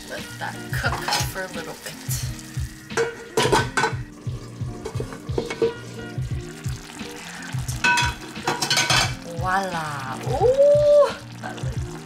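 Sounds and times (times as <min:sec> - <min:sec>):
background music with a beat: 0:00.0 - 0:12.0
food sizzling in a frying pan: 0:00.0 - 0:12.0.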